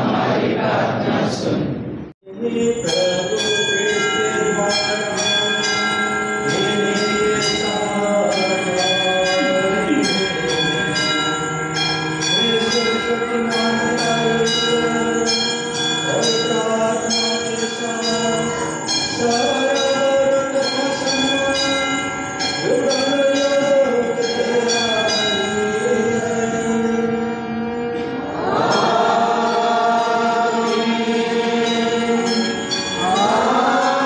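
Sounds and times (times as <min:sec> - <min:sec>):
altar bells ringing: 0:02.3 - 0:34.0.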